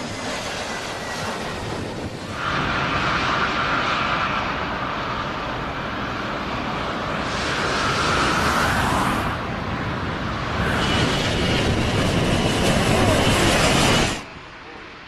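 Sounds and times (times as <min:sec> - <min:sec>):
aircraft engine roar: 0:00.0 - 0:15.0.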